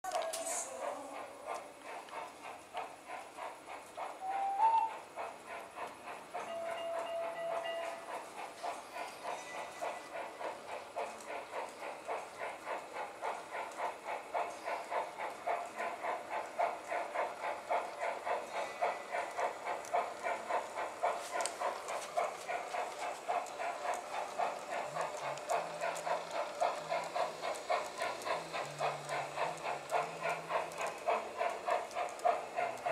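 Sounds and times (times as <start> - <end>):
model steam locomotive chuffing: 0.0 - 32.9.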